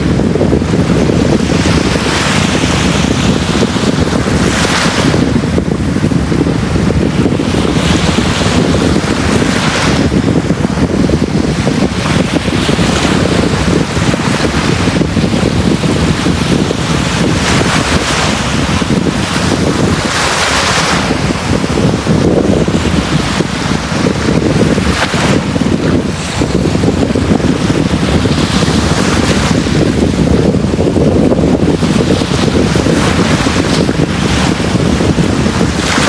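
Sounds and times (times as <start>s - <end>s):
low rumble of surf: 0.0s - 36.0s.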